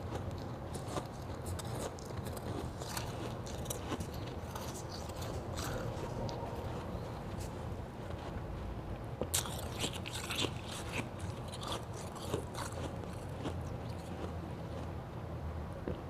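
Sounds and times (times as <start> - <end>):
ice crunching while chewing: 0.0 - 7.5, 9.2 - 14.9.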